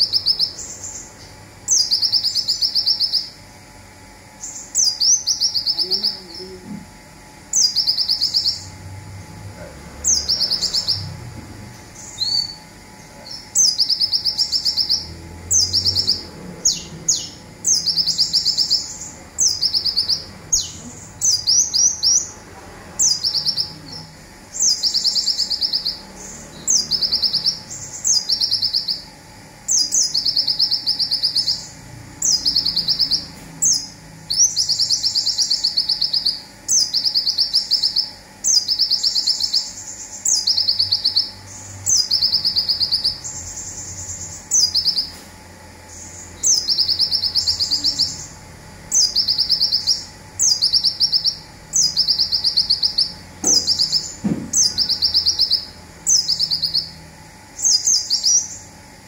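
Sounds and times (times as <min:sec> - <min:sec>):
bird singing trilled bursts: 0:00.0 - 0:06.6, 0:07.4 - 0:09.2, 0:09.9 - 0:11.3, 0:11.9 - 0:58.8.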